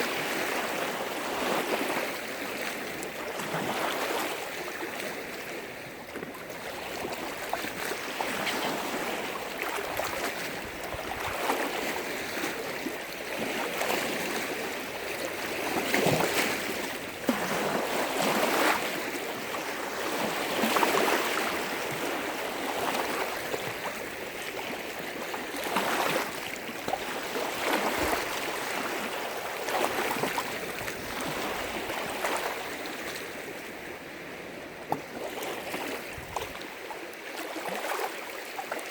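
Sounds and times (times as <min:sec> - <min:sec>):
waves breaking against shore: 0:00.0 - 0:38.9.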